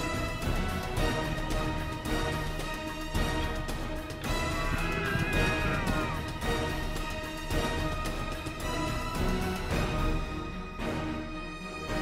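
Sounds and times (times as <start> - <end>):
background music with beat: 0.0 - 11.2.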